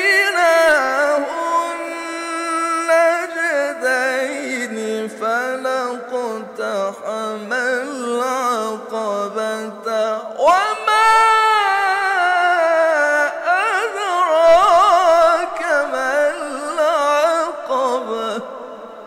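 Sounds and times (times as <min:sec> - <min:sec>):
man chanting melodic recitation: 0:00.0 - 0:19.0.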